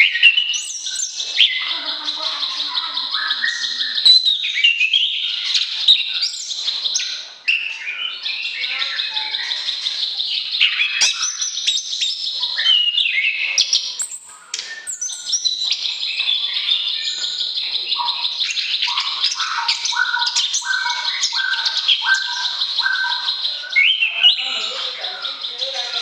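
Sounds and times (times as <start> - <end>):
repeated lower bird notes: 0.0 - 26.0
songbird chirps and trills: 0.0 - 26.0.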